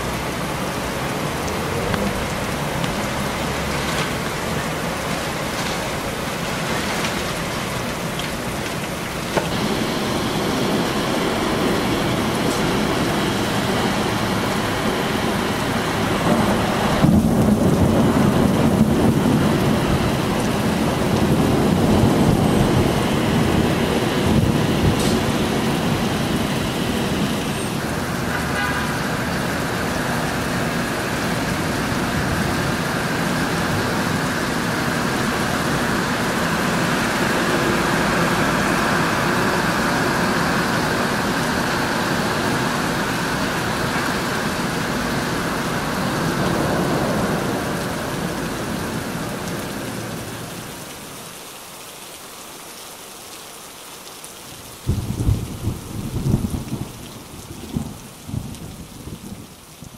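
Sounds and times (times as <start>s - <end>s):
road traffic: 0.0s - 58.3s
steady rain: 0.0s - 59.9s.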